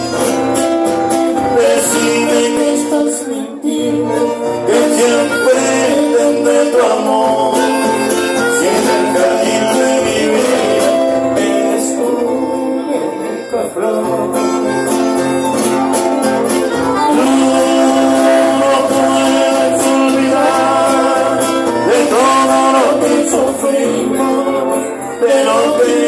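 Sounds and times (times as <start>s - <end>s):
accordions holding long notes: 0.0s - 26.0s
strummed acoustic guitars: 0.0s - 26.0s.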